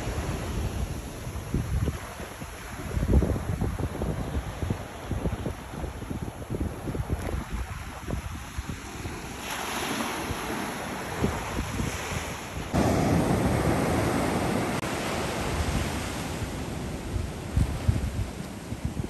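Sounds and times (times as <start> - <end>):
sea waves washing in: 0.0 - 19.0
wind buffeting microphone: 0.0 - 19.0.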